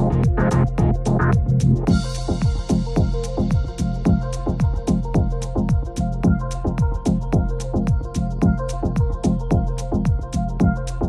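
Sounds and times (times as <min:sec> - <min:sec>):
hi-hat ticks: 0:00.0 - 0:11.0
techno kick drums: 0:00.0 - 0:11.0.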